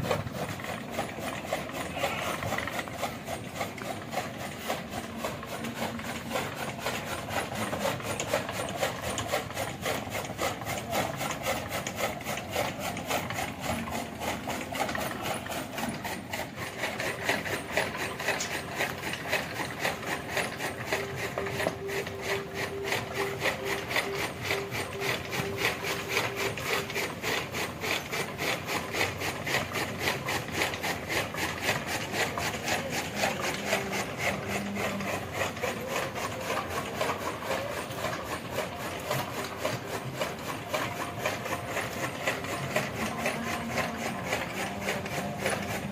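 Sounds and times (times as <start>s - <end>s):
steady squeak: 0.0s - 45.9s.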